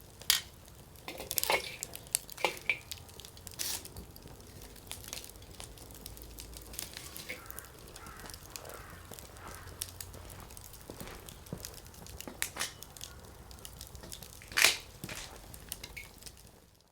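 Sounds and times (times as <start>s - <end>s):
firewood crackling and popping: 0.0s - 16.9s.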